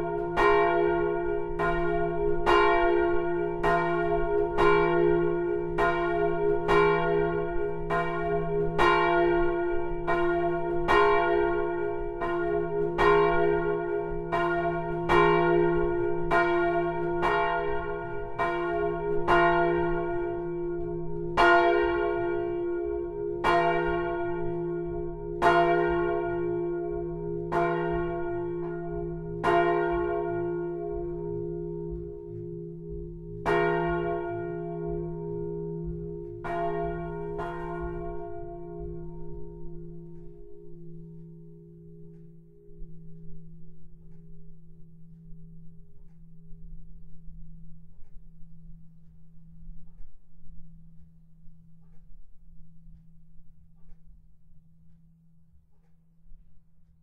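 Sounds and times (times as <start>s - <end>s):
church bell ringing: 0.0s - 49.6s.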